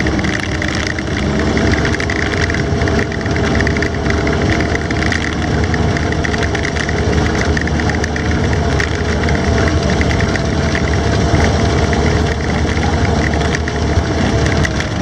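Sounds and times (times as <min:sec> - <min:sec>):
tracks clattering and rattling: 0:00.0 - 0:15.0
vehicle engine running: 0:00.0 - 0:15.0.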